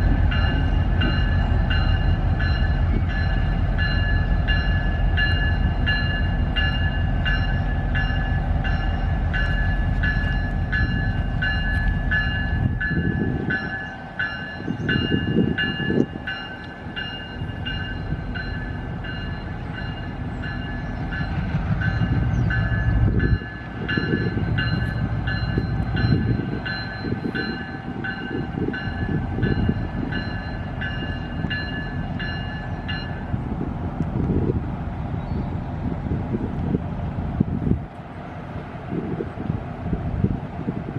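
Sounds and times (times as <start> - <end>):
crossing bell ringing: 0.0 - 33.4
train rumbling past: 0.0 - 40.9.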